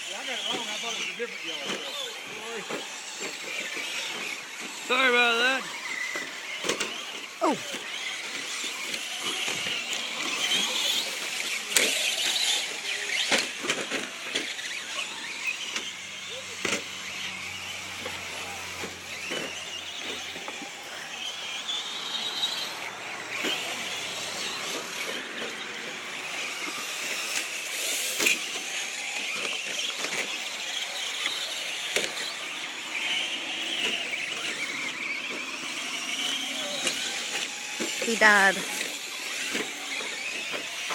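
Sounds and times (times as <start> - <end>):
rc truck motors whining: 0.0 - 40.9
trucks clicking and knocking: 5.7 - 40.9.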